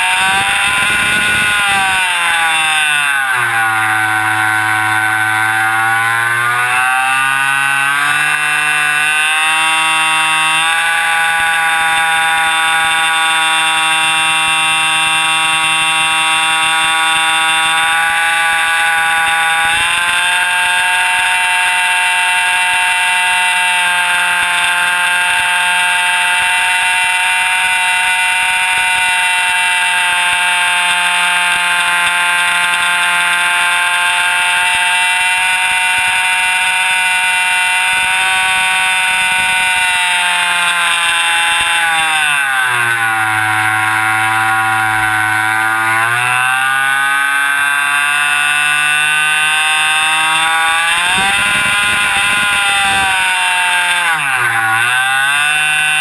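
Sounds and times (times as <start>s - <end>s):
model airplane engine whining: 0.0s - 56.0s.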